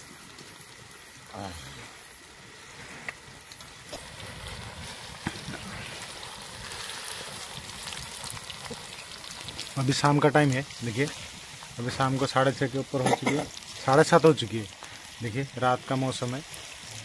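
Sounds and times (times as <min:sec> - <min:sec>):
deep-frying in hot oil sizzle: 0:00.0 - 0:17.0.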